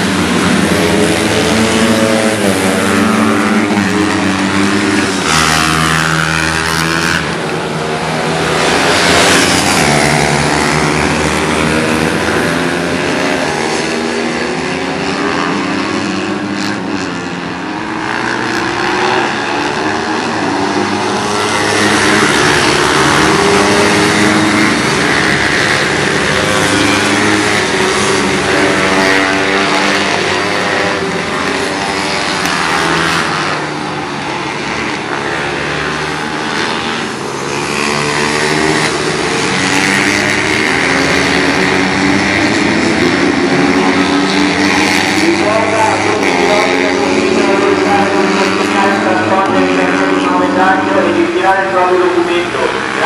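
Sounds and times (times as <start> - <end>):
pit bike engines revving: 0.0 - 53.0.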